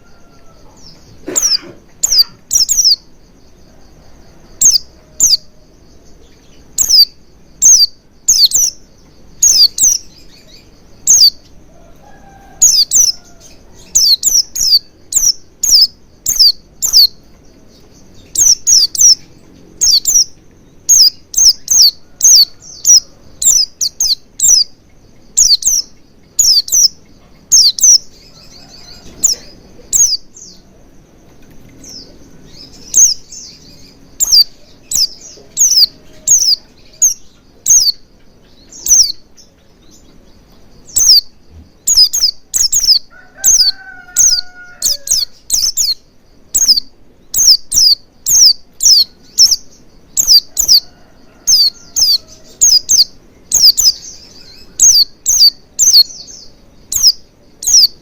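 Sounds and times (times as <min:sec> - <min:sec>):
bird chirping high slurred calls: 0:00.0 - 0:58.0.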